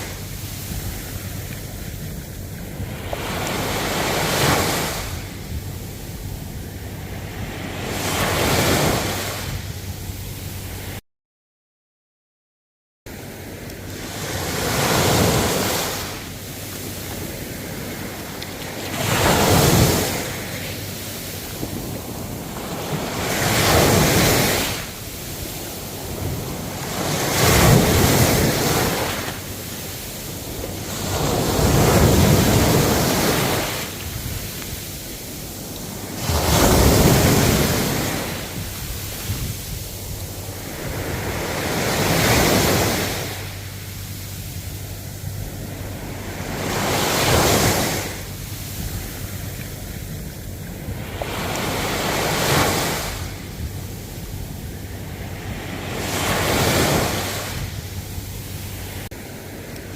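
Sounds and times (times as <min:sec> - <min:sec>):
ocean waves breaking: 0:00.0 - 0:11.0, 0:13.1 - 0:59.9.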